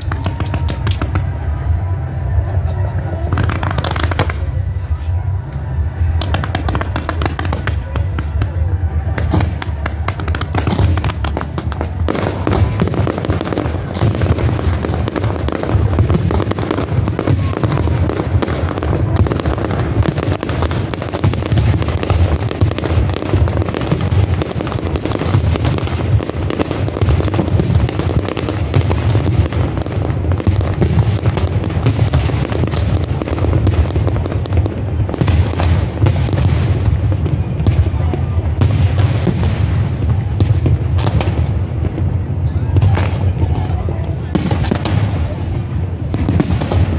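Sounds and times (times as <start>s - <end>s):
fireworks bursting and crackling: 0.0s - 46.9s.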